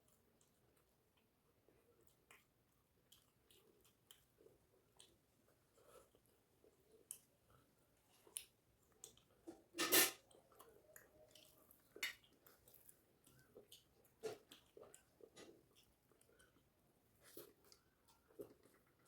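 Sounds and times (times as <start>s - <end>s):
person chewing: 0.0s - 19.0s.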